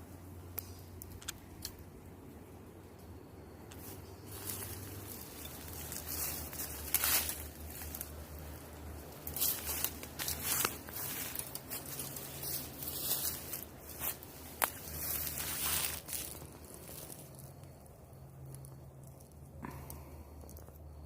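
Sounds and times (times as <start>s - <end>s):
low steady hum: 0.0s - 21.0s
rustling and crackling: 3.0s - 21.0s.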